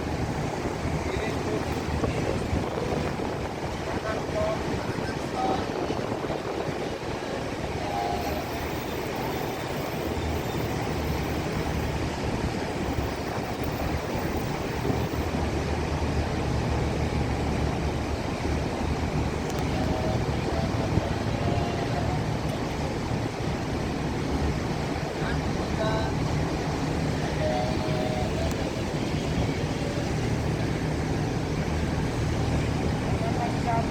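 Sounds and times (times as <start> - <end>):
ship engine low rumble: 0.0 - 33.9
water noise: 0.0 - 33.9
wind: 0.0 - 33.9.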